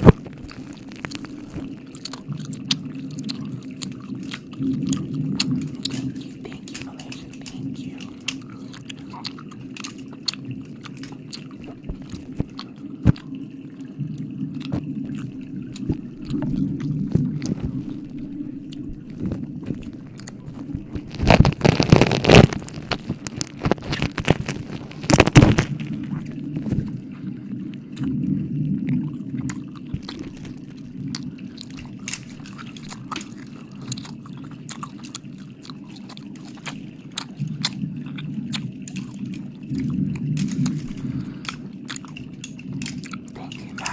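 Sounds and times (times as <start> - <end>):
wet mouth licking and smacking: 0.0 - 26.9, 29.4 - 43.9.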